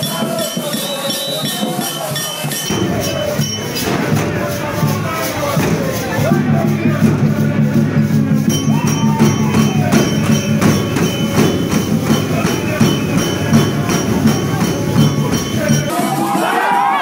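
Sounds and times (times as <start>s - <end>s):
fast percussion beat: 0.0s - 17.0s.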